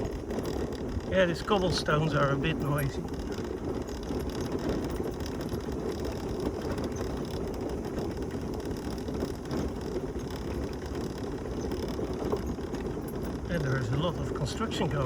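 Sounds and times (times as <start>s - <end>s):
scooter rattling over cobblestones: 0.0s - 15.0s.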